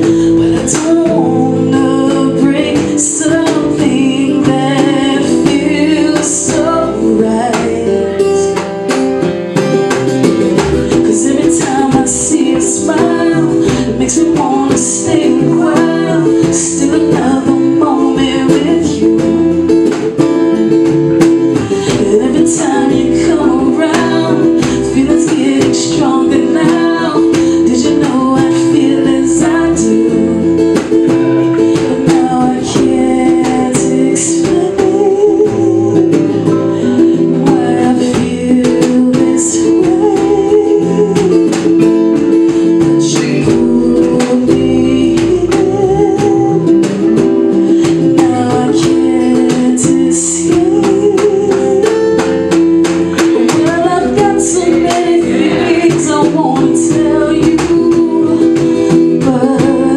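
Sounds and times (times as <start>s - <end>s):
person singing with vibrato: 0.0s - 8.6s, 10.8s - 20.2s, 21.5s - 59.9s
djembe hand-drum strikes: 0.0s - 59.9s
electric bass line: 0.0s - 59.9s
strummed acoustic-electric guitar: 0.0s - 59.9s.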